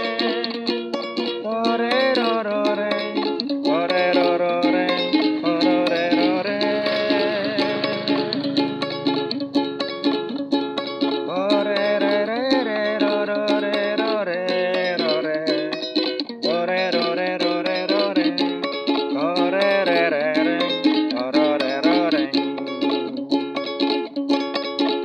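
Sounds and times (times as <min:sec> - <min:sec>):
man singing: 0:00.0 - 0:09.2, 0:11.2 - 0:23.0
ukulele strumming: 0:00.0 - 0:25.0.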